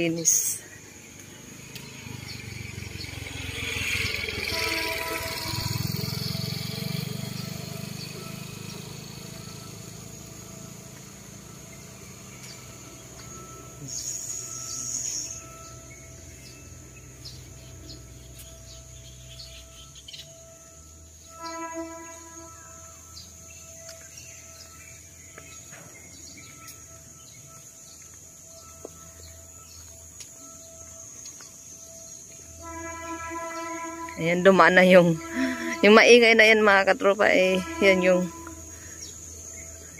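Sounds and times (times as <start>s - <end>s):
high insect drone: 0.0s - 39.9s
motorcycle engine rumbling: 0.0s - 39.9s.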